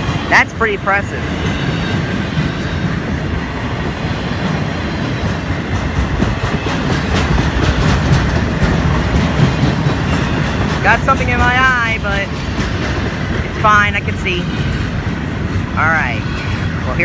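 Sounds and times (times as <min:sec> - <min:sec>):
steel wheels rumbling on rails: 0:00.0 - 0:17.0.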